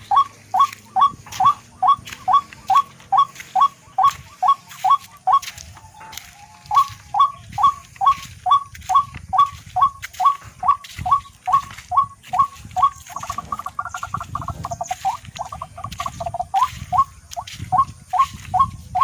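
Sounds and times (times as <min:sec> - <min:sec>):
rail bird calling: 0:00.0 - 0:19.0.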